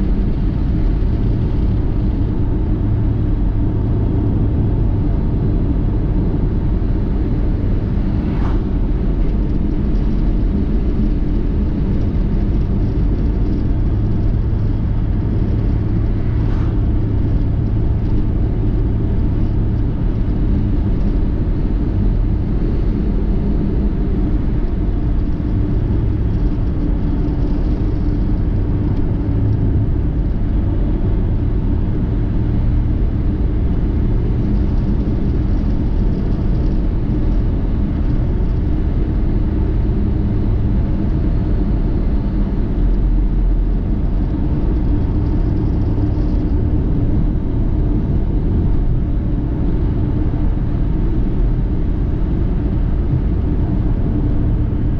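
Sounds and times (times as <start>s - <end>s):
steady low hums: 0.0s - 54.9s
vehicle engine and road rumble: 0.0s - 54.9s.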